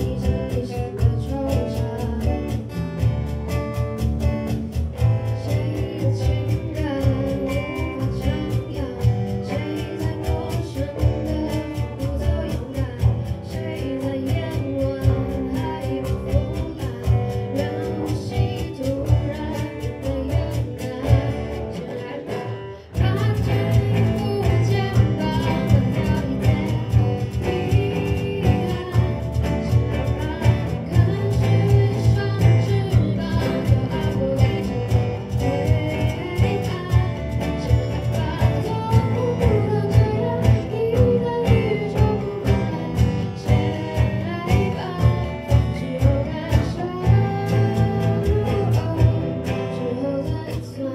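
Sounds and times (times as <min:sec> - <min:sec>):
acoustic guitars strumming: 0:00.0 - 0:50.9
cajon drumming: 0:00.0 - 0:50.9
electric bass: 0:00.0 - 0:50.9
woman singing lead vocal: 0:00.0 - 0:50.9.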